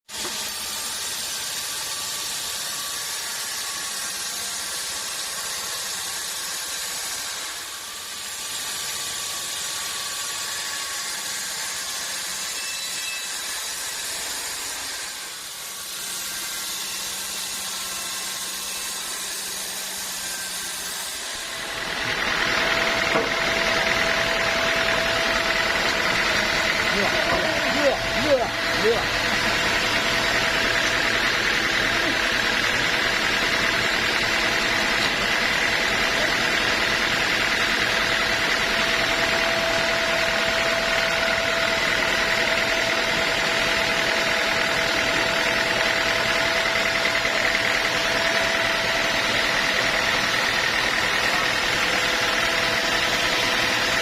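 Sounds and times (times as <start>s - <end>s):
sawmill machinery hissing: 0.1s - 54.0s
steady machine whine: 0.1s - 54.0s.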